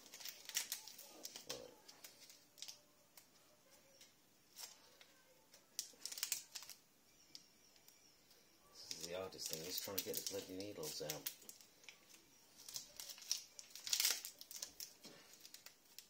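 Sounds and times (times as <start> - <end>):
plastic syringe and wrappers clicking: 0.0 - 3.3, 4.0 - 8.0, 8.8 - 16.0.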